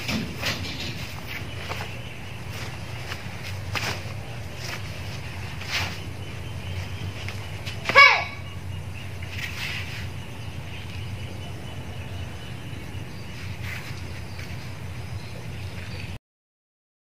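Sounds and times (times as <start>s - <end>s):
low outdoor rumble: 0.0s - 16.2s.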